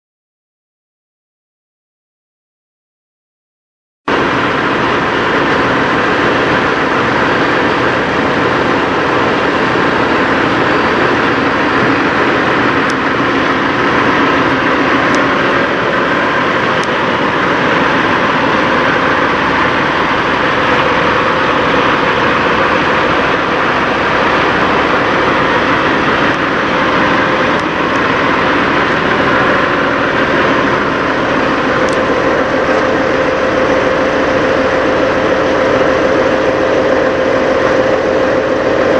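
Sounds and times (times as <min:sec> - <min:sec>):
diesel truck engine idling: 0:04.1 - 0:38.9.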